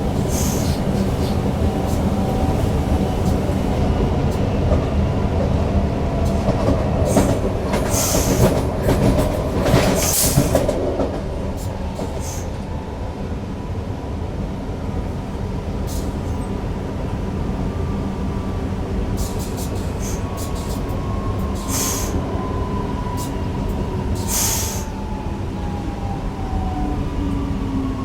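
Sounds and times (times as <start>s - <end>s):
train wheels rumbling: 0.0s - 13.1s, 14.5s - 28.0s.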